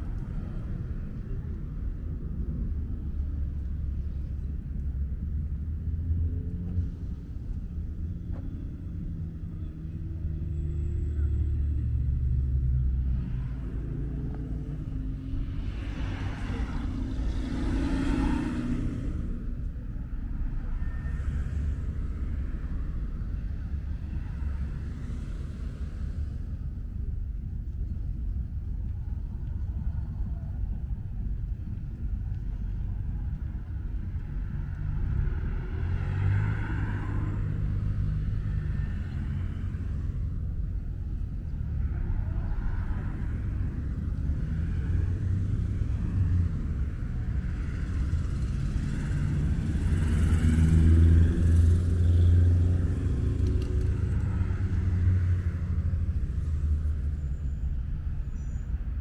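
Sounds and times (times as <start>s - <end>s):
cars passing: 0.0s - 28.2s, 31.8s - 59.0s
low traffic rumble: 0.0s - 59.0s.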